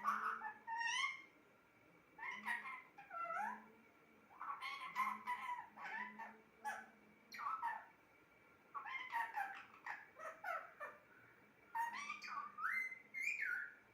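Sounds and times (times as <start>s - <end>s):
parrot calls and chatter: 0.0s - 13.9s.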